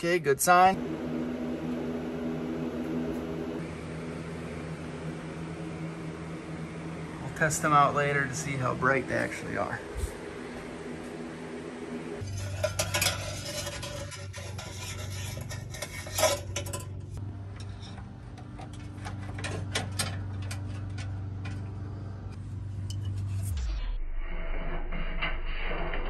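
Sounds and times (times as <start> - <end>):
steady low hum: 0.7 - 26.0.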